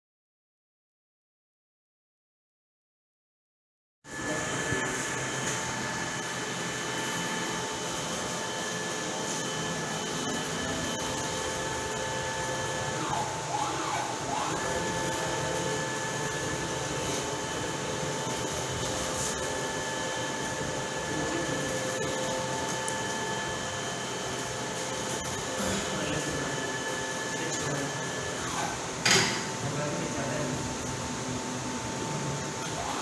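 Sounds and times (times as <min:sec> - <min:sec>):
printer machine humming and whining: 0:04.1 - 0:33.0.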